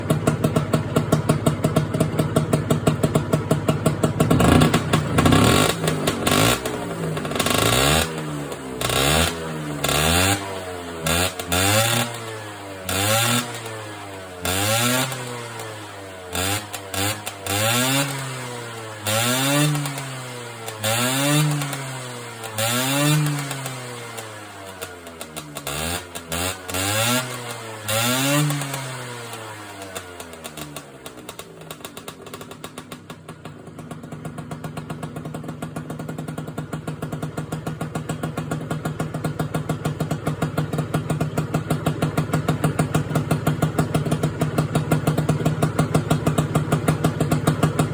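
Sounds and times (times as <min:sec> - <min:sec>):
scooter engine revving: 0:00.0 - 0:47.9.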